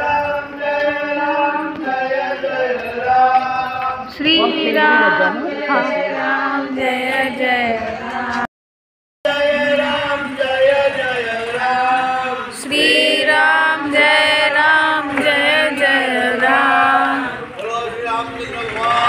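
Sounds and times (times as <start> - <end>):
devotional chant-like singing: 0.0 - 8.5, 9.3 - 19.0.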